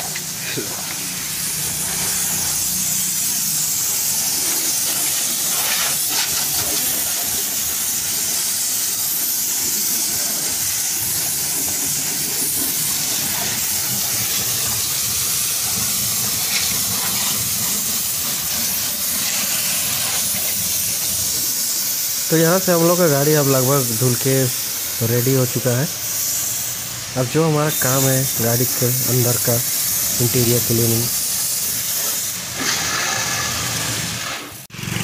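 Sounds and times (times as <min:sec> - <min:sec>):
hose nozzle spraying water on car: 0:00.0 - 0:35.0.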